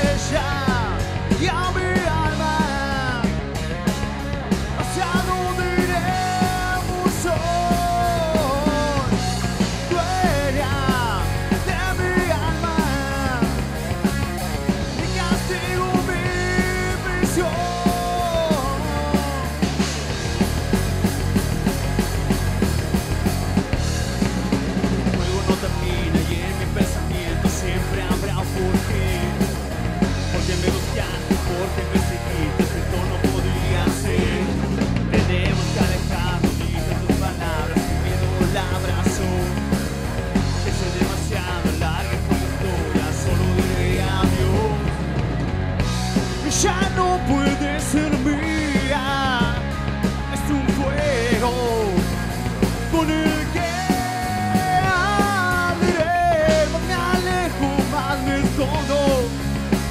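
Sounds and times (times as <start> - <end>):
male lead vocal: 0.0 - 3.8, 4.6 - 21.4, 24.9 - 59.9
drum kit: 0.0 - 59.9
electric bass: 0.0 - 59.9
electric guitar: 0.0 - 59.9.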